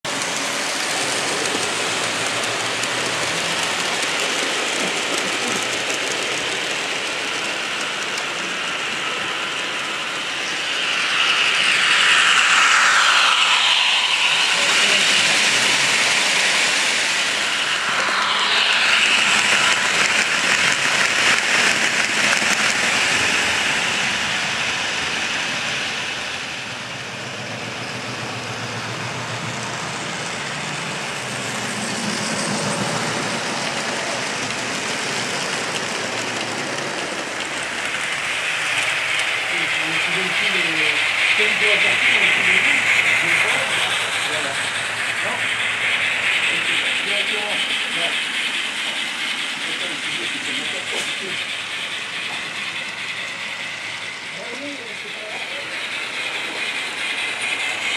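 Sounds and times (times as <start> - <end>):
model trains rolling: 0.0 - 57.9
train whine shifting in pitch: 0.0 - 57.9.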